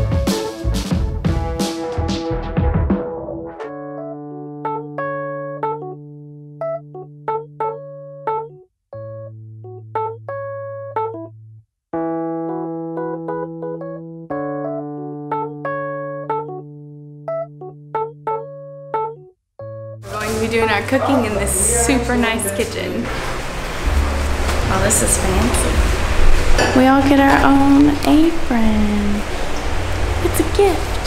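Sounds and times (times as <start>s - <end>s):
electric piano playing chords: 0.0s - 31.0s.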